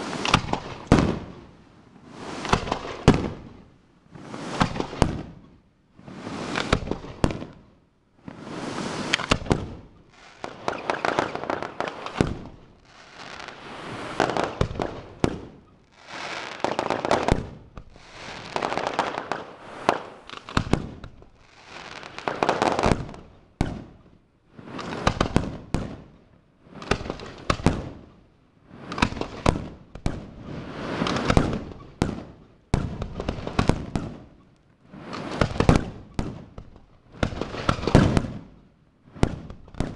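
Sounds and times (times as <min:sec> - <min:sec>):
fireworks bursting: 0:00.0 - 0:07.6, 0:08.2 - 0:39.9
fireworks bangs and crackles: 0:00.0 - 0:39.9.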